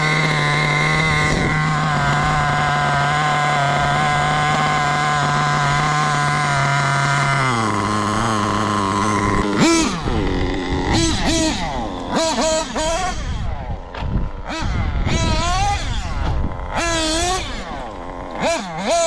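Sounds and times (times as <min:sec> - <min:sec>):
model car nitro engine running: 0:00.0 - 0:19.0.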